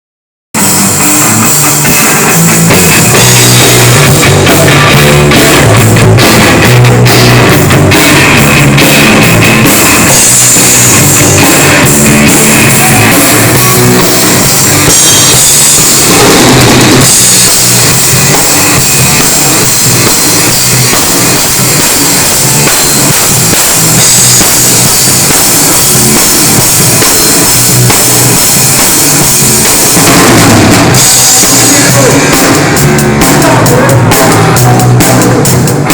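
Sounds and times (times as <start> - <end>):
loud drum kit: 0.5 - 35.9
rock band playing: 0.5 - 35.9.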